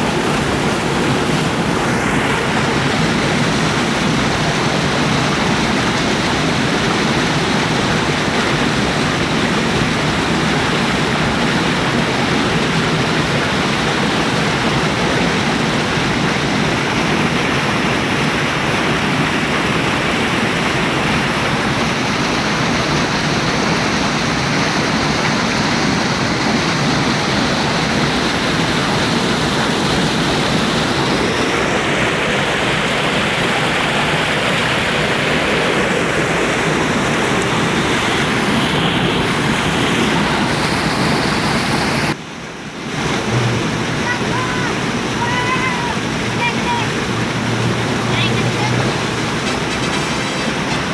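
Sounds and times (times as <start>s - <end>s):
water rushing along a channel: 0.0s - 50.9s.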